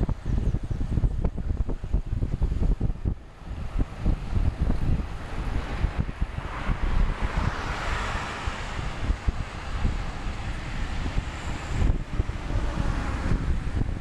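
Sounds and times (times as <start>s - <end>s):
road and tyre noise: 0.0s - 14.0s
wind buffeting microphone: 0.0s - 14.0s.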